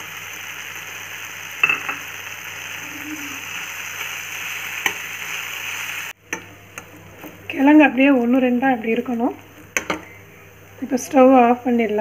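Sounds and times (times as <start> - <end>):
food sizzling in pan: 0.0 - 12.0.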